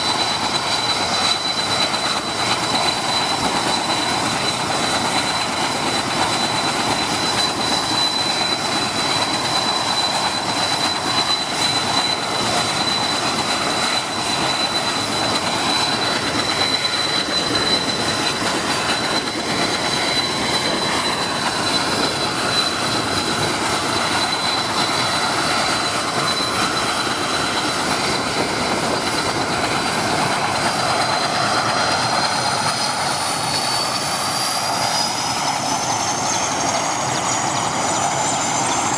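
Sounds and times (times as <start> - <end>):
helicopter engine whine: 0.0 - 38.9
helicopter rotor noise: 0.0 - 38.9.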